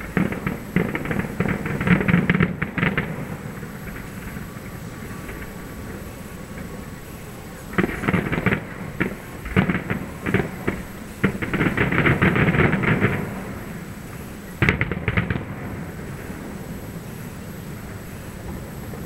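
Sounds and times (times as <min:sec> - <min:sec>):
fireworks crackling pops: 0:00.0 - 0:19.0.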